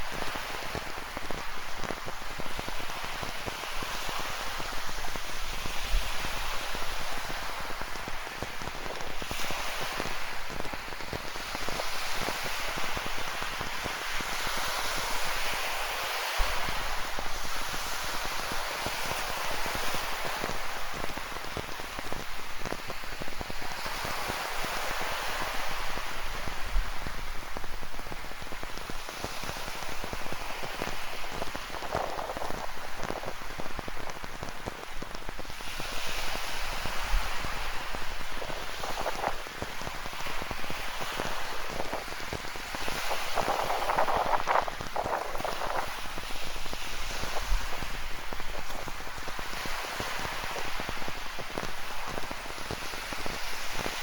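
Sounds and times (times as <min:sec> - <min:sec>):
ocean surf on rocky shore: 0:00.0 - 0:54.0.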